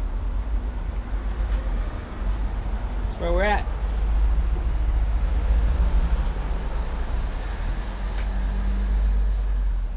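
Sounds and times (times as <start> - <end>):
vehicle engines rumbling: 0.0 - 9.9.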